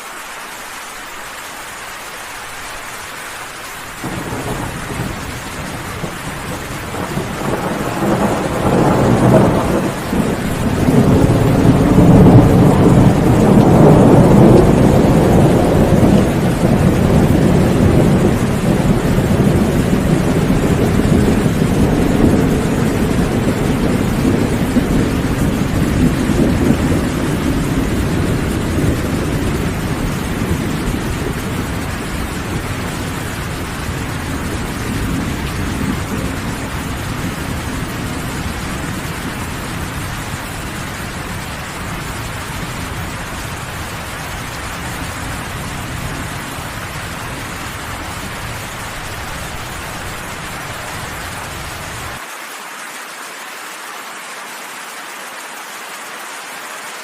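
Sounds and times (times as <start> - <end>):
heavy rain: 0.0 - 57.0
thunder rumble: 4.0 - 52.2.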